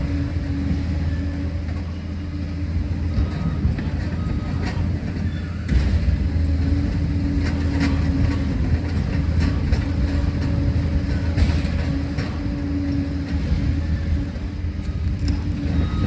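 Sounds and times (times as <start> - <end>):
diesel engine drone: 0.0 - 16.0
tracks clanking: 0.0 - 16.0.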